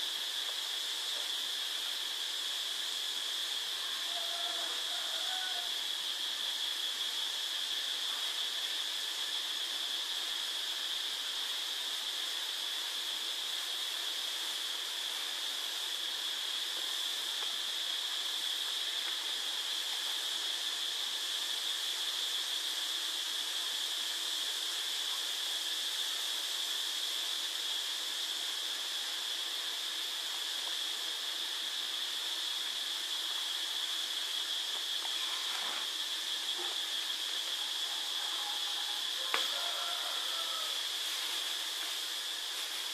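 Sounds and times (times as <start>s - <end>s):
high-pitched hiss: 0.0s - 42.9s.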